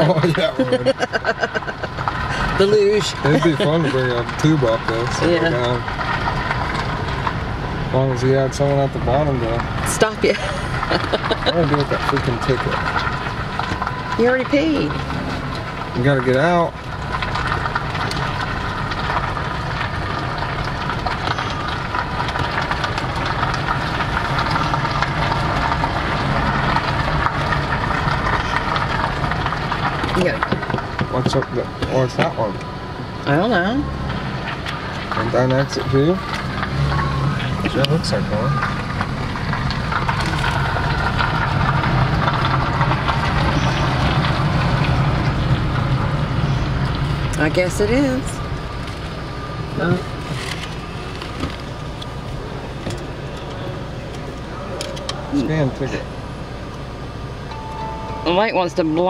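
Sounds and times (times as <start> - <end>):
car engine at low revs: 0.0 - 59.0
road noise: 0.0 - 59.0.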